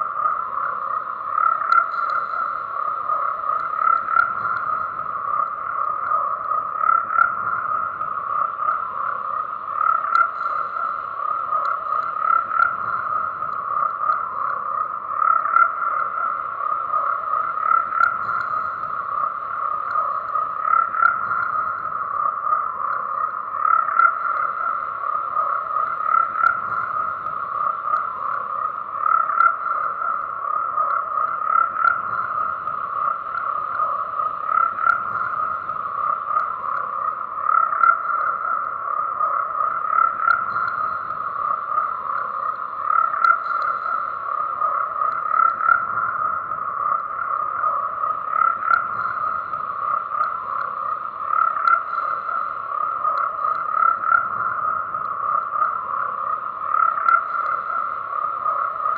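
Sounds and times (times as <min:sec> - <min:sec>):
frogs croaking: 0:00.0 - 0:58.9.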